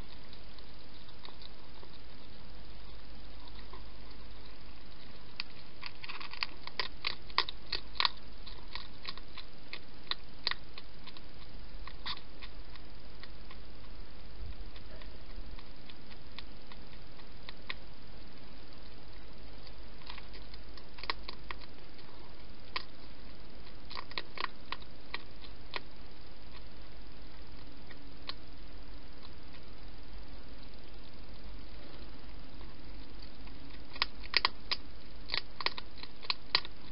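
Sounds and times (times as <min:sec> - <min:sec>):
hedgehog crunching food: 0:00.0 - 0:36.9.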